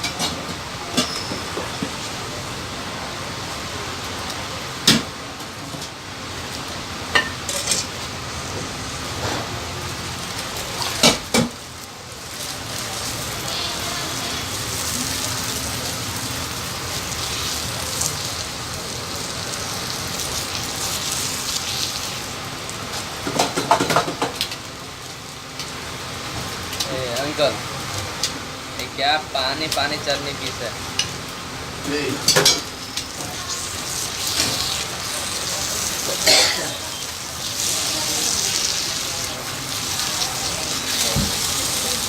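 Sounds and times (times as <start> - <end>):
food sizzling on a griddle: 0.0 - 42.0.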